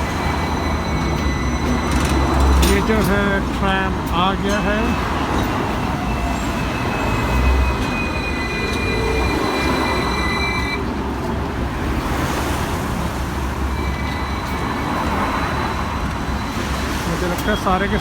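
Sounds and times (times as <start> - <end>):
steel wheels squealing: 0.0 - 11.3, 13.4 - 18.0
tram rumbling on tracks: 0.0 - 18.0.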